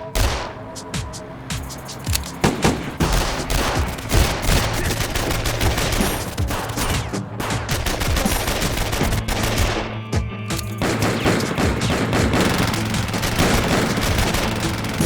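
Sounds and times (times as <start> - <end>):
rapid gunfire: 0.2 - 15.0.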